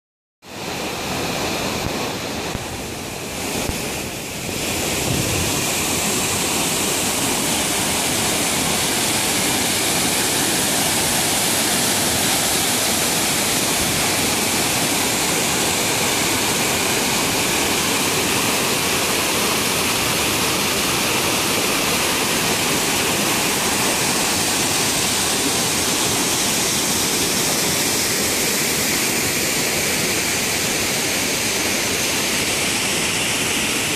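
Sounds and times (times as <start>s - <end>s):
waterfall rushing: 0.5s - 33.9s.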